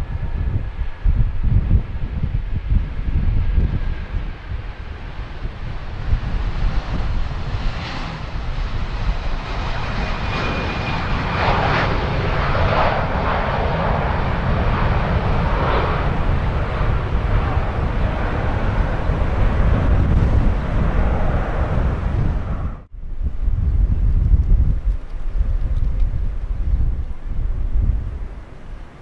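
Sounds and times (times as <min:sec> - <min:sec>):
jet engine noise: 0:00.0 - 0:29.0
wind buffeting microphone: 0:00.0 - 0:29.0.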